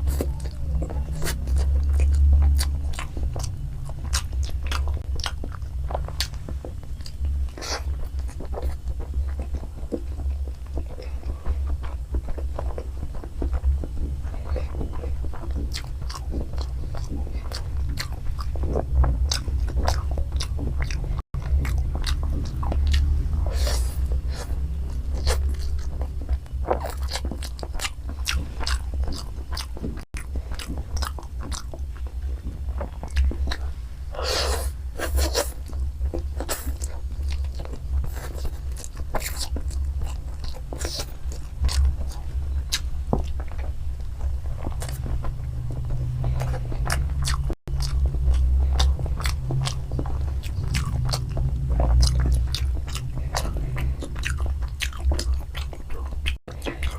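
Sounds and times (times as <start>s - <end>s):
low rumble: 0.0s - 35.0s, 35.6s - 56.9s
chewing noodles: 0.0s - 56.9s.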